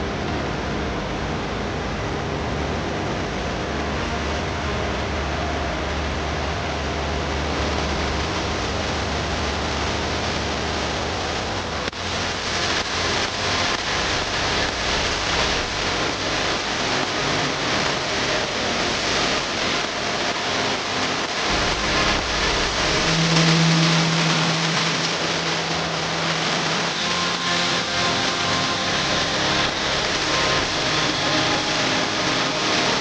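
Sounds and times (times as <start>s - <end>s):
indoor waterfall rushing: 0.0s - 33.0s.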